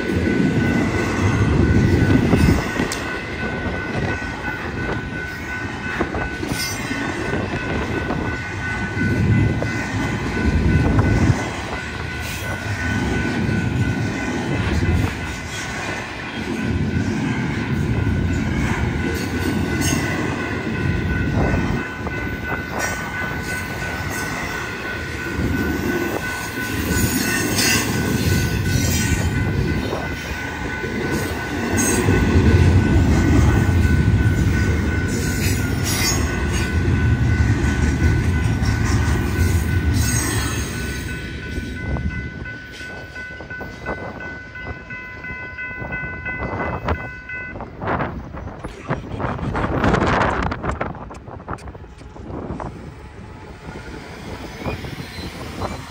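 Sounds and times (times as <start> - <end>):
crossing warning bell ringing: 0.0 - 55.9
freight train rumbling and clacking: 0.0 - 55.9.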